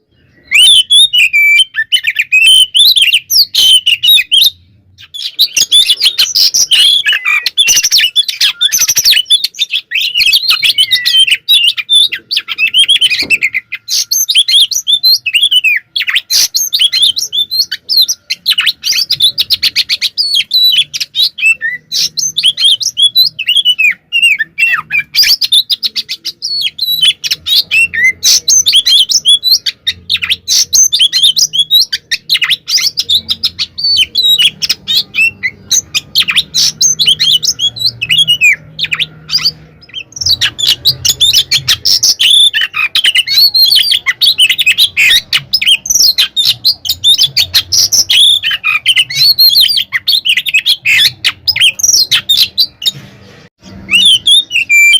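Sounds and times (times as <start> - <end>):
magpie-robin singing: 0.0 - 54.9.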